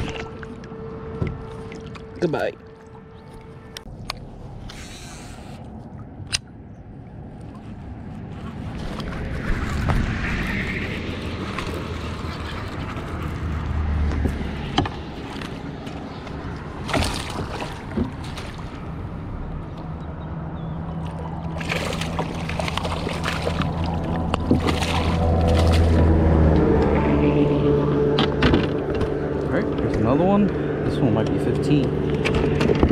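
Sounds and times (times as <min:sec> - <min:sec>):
water sloshing against hull: 0:00.0 - 0:30.9
low steady hum: 0:00.0 - 0:32.9.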